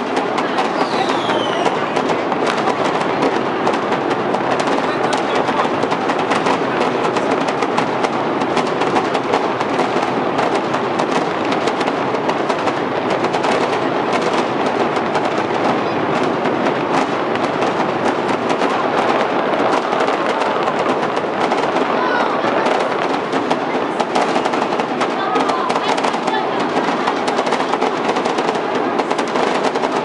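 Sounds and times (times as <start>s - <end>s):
fireworks cracking and popping: 0.0s - 30.0s.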